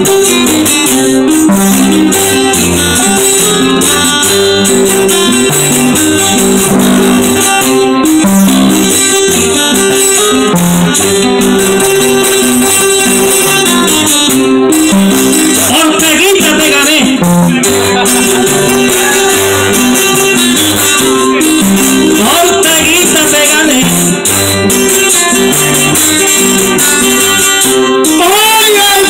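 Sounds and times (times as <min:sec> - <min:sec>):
hand percussion: 0:00.0 - 0:29.0
plucked string melody: 0:00.0 - 0:29.0
strummed guitar: 0:00.0 - 0:29.0.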